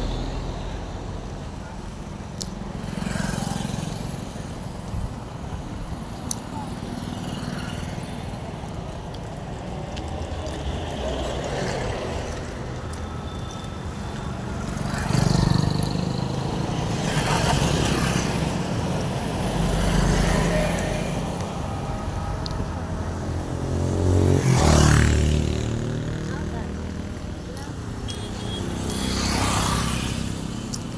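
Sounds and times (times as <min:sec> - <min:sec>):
motorcycle engines passing: 0:00.0 - 0:30.9
truck engines passing: 0:00.0 - 0:30.9.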